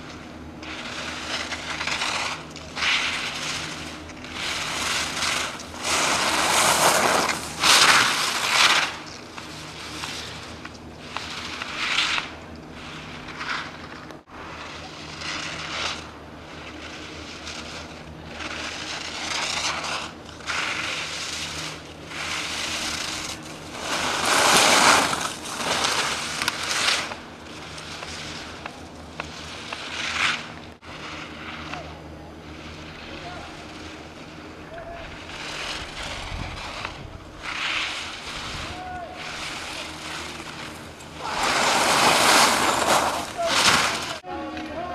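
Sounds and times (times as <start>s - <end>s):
skis scraping on snow: 0.0s - 44.9s
steady low hum: 0.0s - 44.9s.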